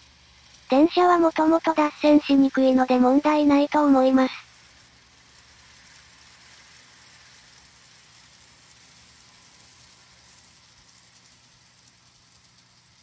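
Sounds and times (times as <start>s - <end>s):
model train motor hum: 0.0s - 13.0s.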